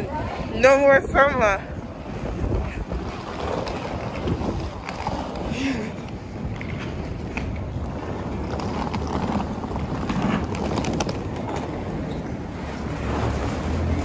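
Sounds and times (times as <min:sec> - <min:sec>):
suitcase wheels rolling on pavement: 0:00.0 - 0:14.0
wind buffeting microphone: 0:00.0 - 0:14.0.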